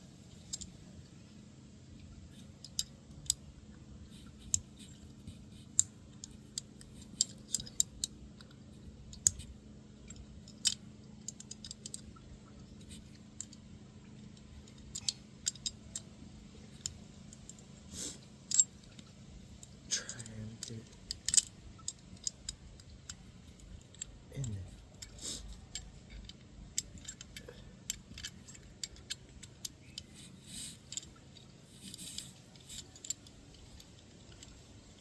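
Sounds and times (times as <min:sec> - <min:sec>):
steady low hum: 0:00.0 - 0:35.0
small tools clicking and tapping: 0:04.1 - 0:35.0.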